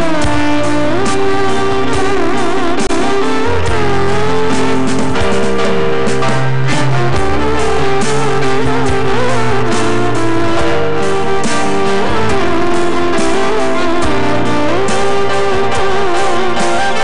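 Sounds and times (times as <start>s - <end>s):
keyboards: 0.0s - 17.0s
sliding lead melody: 0.0s - 17.0s
sustained bass notes: 0.0s - 17.0s.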